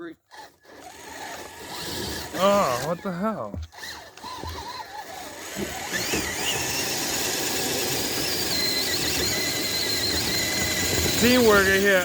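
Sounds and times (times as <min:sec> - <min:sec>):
electric motor and gears whining: 0:00.2 - 0:12.0.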